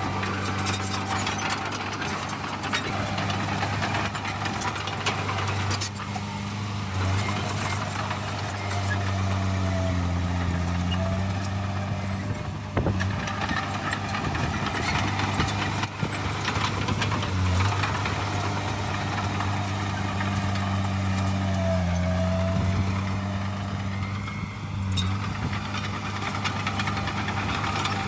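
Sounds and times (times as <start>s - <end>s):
diesel machinery engine drone: 0.0s - 28.0s.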